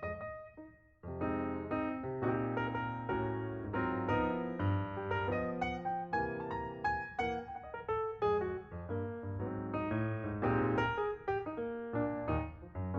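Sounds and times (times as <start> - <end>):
piano melody: 0.0 - 12.9.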